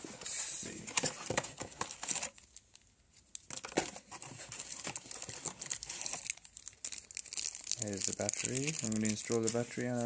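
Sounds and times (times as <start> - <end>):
packaging crinkling and rustling: 0.7 - 10.0.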